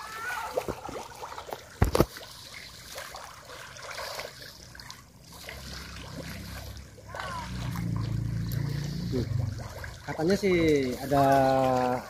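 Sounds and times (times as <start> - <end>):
fish splashing at water surface: 0.0 - 12.0
water trickling and lapping: 0.0 - 12.0.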